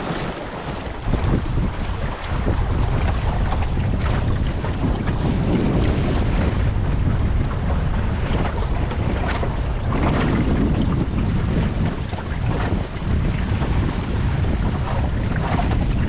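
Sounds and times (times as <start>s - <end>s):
water splashing along boat hull: 0.0s - 16.0s
wind buffeting microphone: 0.0s - 16.0s.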